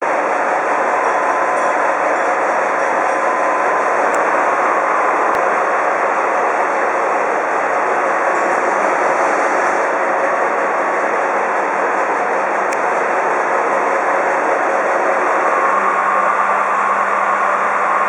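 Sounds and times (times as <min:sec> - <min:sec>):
milling machine noise: 0:00.0 - 0:18.0.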